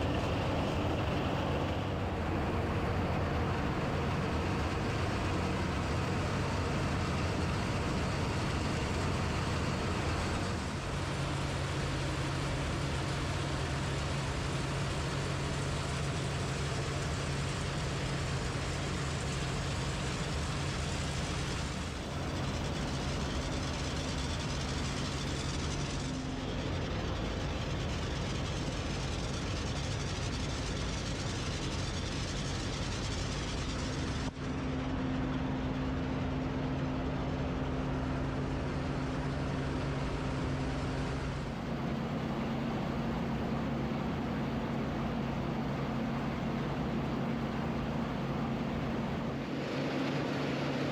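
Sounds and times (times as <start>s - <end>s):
harvester mechanical noise: 0.0s - 50.6s
tractor engine hum: 0.0s - 50.8s.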